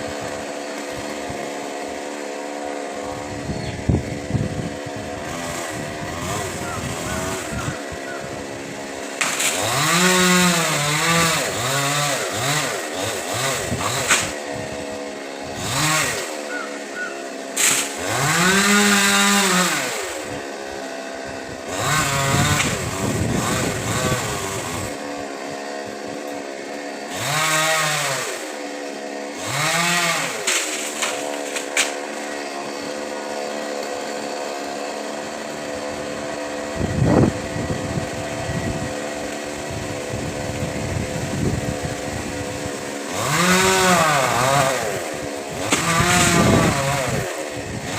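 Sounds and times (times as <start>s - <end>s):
chainsaw revving and idling: 0.0s - 47.9s.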